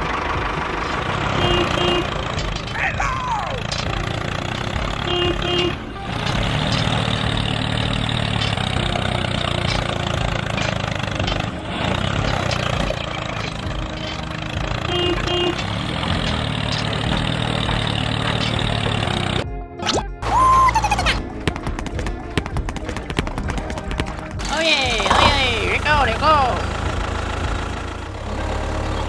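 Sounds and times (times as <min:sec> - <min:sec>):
heavy machinery engine rumble: 0:00.0 - 0:19.6, 0:20.2 - 0:29.0.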